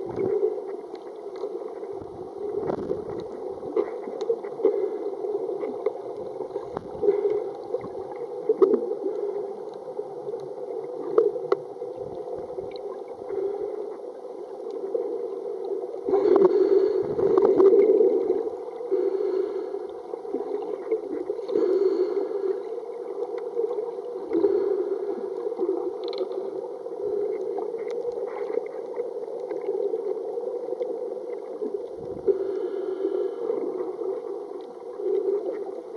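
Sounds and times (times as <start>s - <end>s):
muffled underwater water rush: 0.0s - 35.9s.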